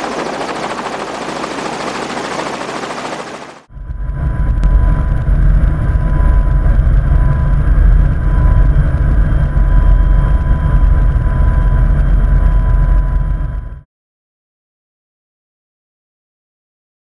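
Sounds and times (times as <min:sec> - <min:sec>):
helicopter rotor and turbine rumble: 0:00.0 - 0:13.8.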